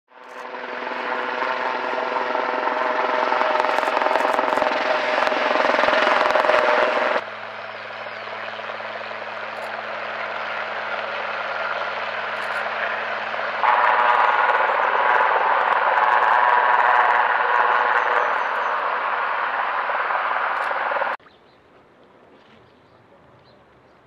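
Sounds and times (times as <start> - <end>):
helicopter rotor and engines: 0.1 - 21.2.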